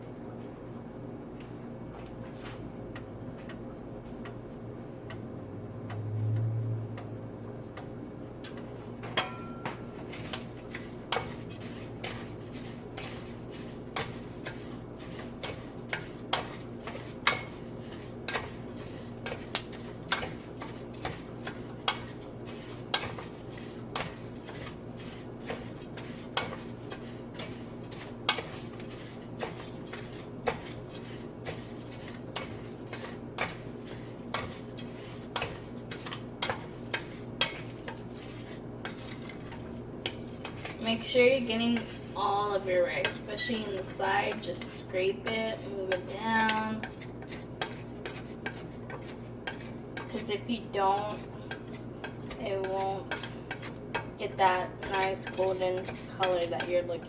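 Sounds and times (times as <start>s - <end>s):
steady low hum: 0.0s - 57.0s
spoon scraping cooking pot: 9.2s - 57.0s.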